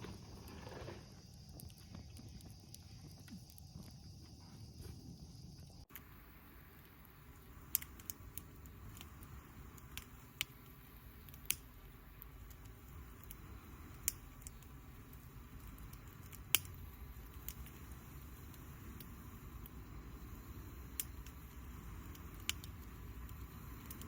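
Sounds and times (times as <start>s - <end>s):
campfire flames rushing: 0.0s - 24.0s
fire popping: 0.0s - 24.0s.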